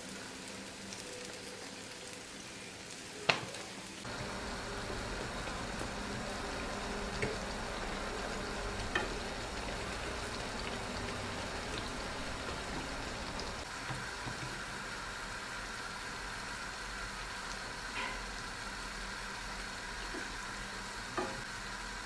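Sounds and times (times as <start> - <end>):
dough sizzling in hot oil: 0.0 - 22.0.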